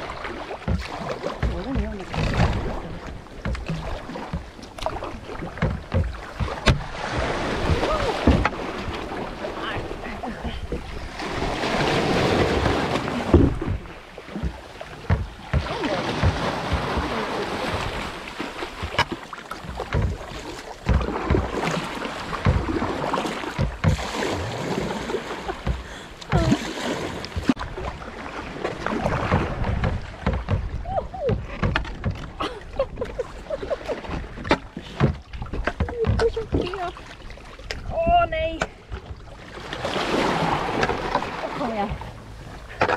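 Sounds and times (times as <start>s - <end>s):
paddle knocks and splashes: 0.0s - 42.9s
water splashing around kayak hull: 0.0s - 42.9s.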